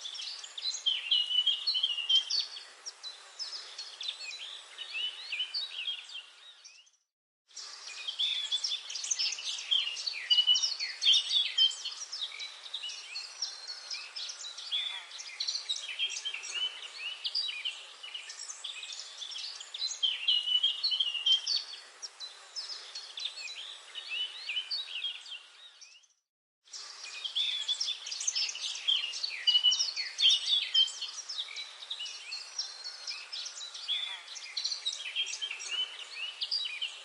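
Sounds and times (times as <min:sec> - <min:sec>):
small birds chirping and trilling: 0:00.0 - 0:37.0.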